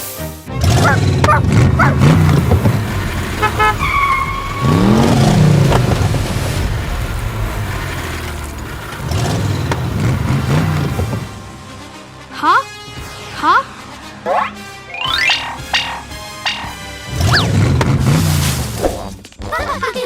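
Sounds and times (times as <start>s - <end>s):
engine revving up and down: 0.5s - 19.1s.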